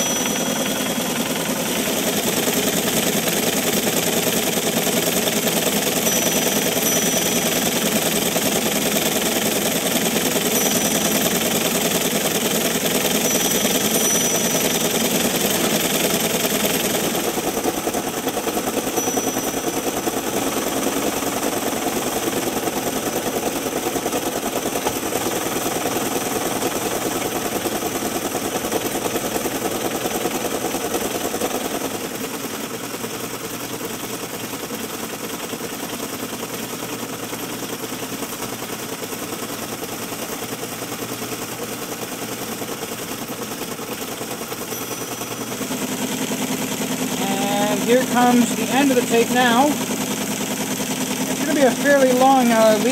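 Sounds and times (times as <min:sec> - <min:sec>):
machine motor running: 0:00.0 - 0:52.9.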